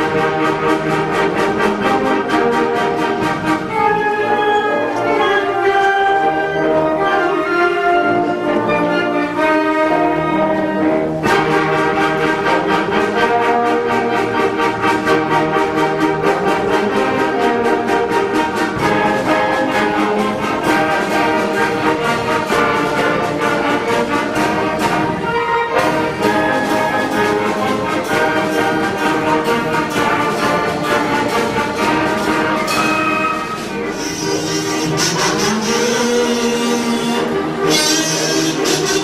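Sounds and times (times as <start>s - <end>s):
concert band playing: 0.0s - 39.0s.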